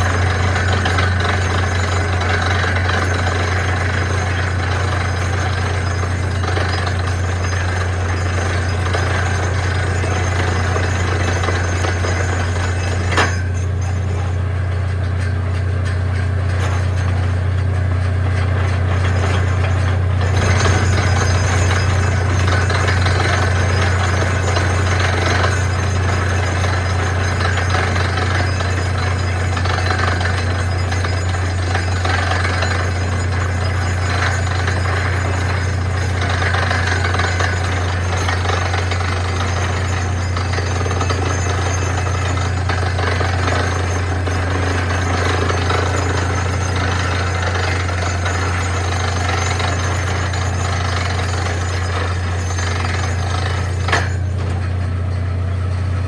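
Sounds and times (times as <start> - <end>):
drill hammering: 0.0 - 54.8
drilling rig engine drone: 0.0 - 56.0.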